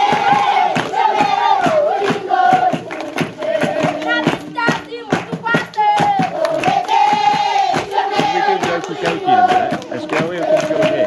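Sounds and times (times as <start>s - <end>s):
children singing: 0.0s - 11.0s
rhythmic hand clapping: 0.0s - 11.0s.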